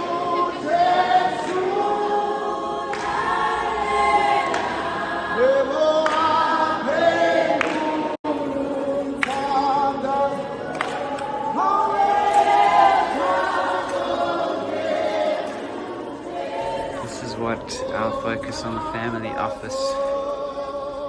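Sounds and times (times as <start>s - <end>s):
gospel choir singing a cappella: 0.0s - 21.0s.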